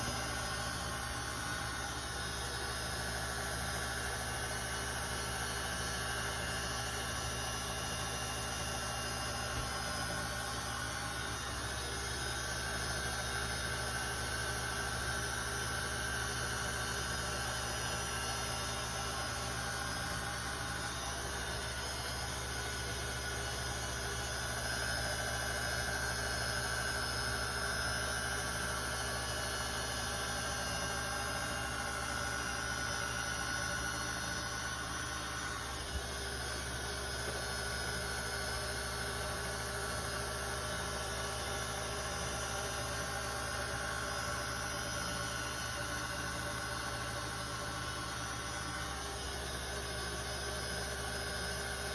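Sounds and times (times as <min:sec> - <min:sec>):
mechanical hum with whine: 0:00.0 - 0:51.9.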